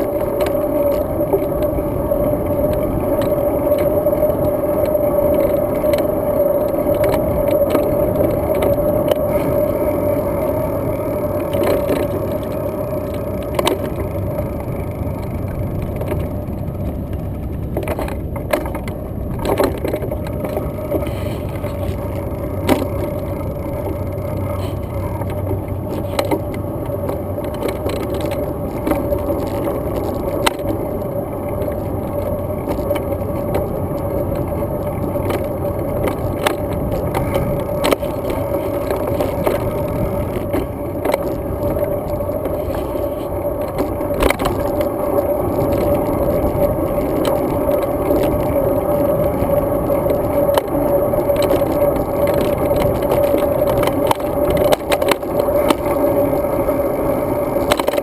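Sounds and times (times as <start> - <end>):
bike clicks and rattles: 0.0 - 58.0
steady droning tone: 0.0 - 58.0
tyres and wind rumbling: 0.0 - 58.0.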